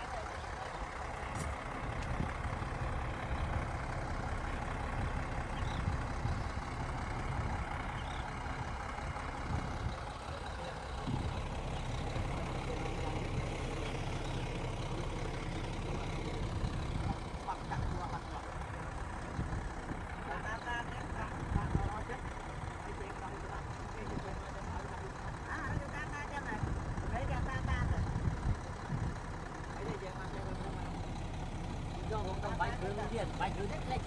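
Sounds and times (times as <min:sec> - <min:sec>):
bulldozer diesel engine rumbling: 0:00.0 - 0:34.0.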